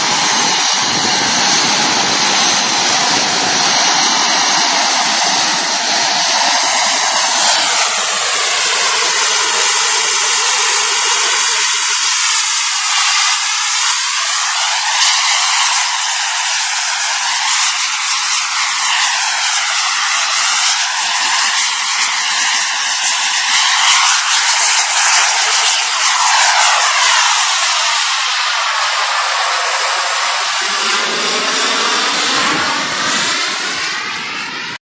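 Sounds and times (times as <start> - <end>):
fighter jet engines hissing: 0.0 - 34.8.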